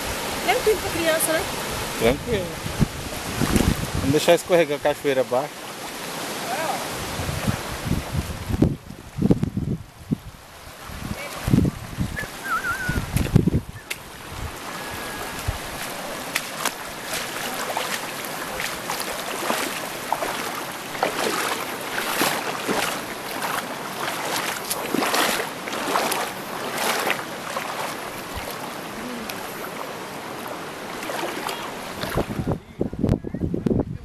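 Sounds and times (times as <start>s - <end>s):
river water splashing over rocks: 0.0s - 9.1s, 10.4s - 32.6s.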